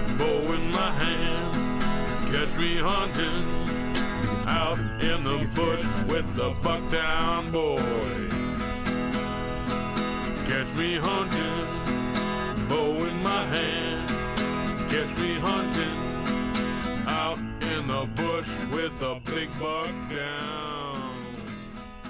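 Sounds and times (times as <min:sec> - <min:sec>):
person singing: 0:00.0 - 0:08.6, 0:10.5 - 0:11.9, 0:12.6 - 0:16.2, 0:17.1 - 0:21.6
strummed acoustic guitar: 0:00.0 - 0:22.0.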